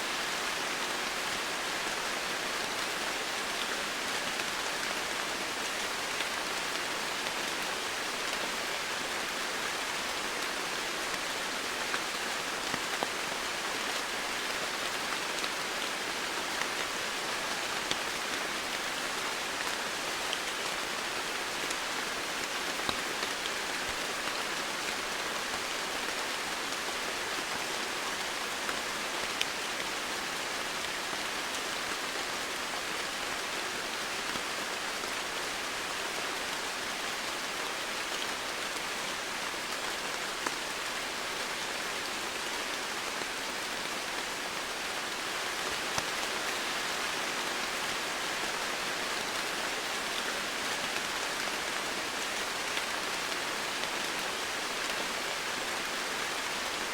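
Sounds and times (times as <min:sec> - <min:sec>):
rain falling on foliage: 0:00.0 - 0:56.9.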